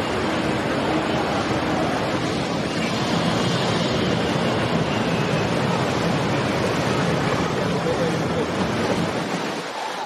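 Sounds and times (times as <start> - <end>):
boat engines rumbling: 0.0 - 10.0
water wash from boat wakes: 0.0 - 10.0.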